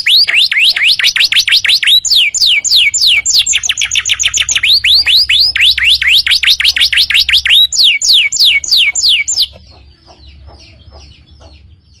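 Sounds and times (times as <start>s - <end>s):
canary singing: 0.0s - 12.0s
faint bird chirps: 0.0s - 12.0s.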